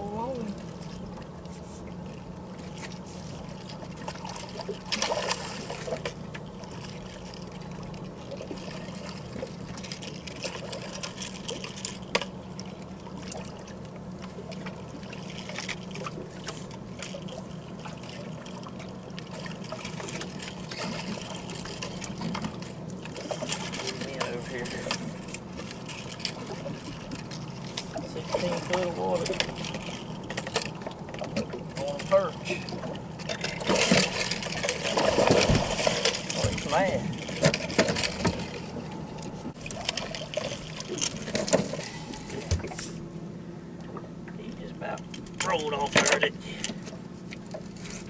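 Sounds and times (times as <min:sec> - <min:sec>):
steady low hum: 0:00.0 - 0:48.0
water lapping against boat hull: 0:00.0 - 0:48.0.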